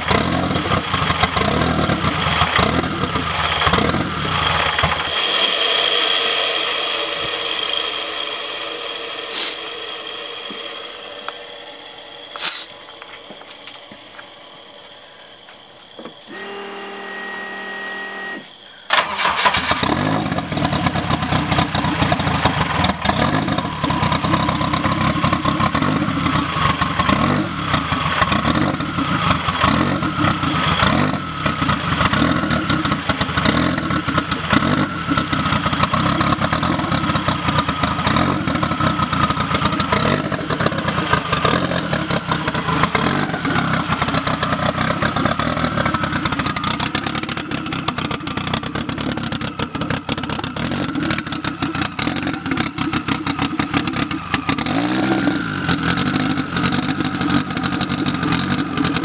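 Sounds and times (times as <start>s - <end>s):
car engine running: 0.0s - 14.6s, 15.9s - 59.0s.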